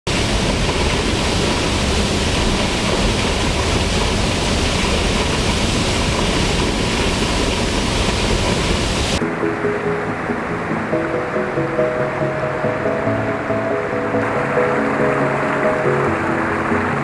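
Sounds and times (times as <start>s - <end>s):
waterfall rushing: 0.1s - 17.0s.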